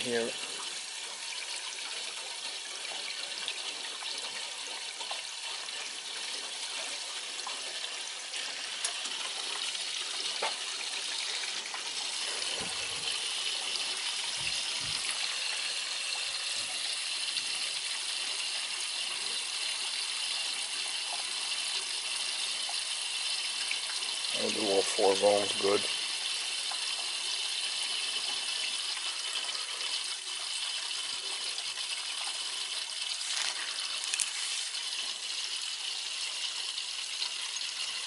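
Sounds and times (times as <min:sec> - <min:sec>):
water rushing through drain hose: 0:00.0 - 0:38.0.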